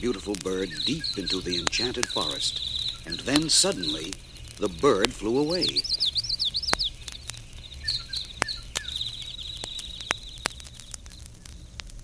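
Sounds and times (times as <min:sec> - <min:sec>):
birds chirping and trilling: 0:00.0 - 0:11.8
vinyl record clicks and pops: 0:00.0 - 0:12.0.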